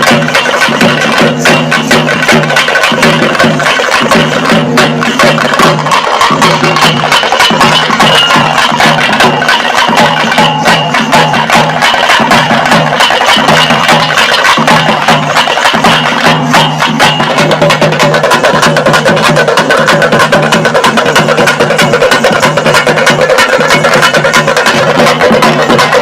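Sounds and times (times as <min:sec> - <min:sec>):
rapid drum strokes: 0:00.0 - 0:26.0.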